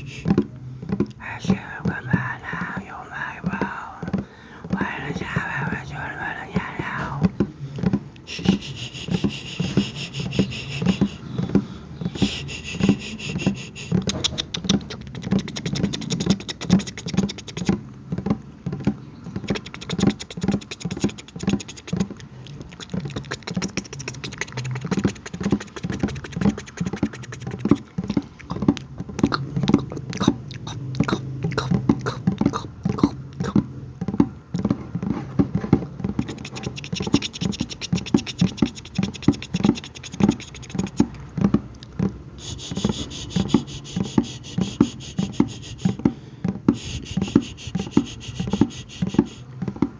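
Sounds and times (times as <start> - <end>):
wet mouth clicks and pops: 1.1 - 17.9, 18.8 - 34.8, 36.0 - 46.1, 46.7 - 49.9.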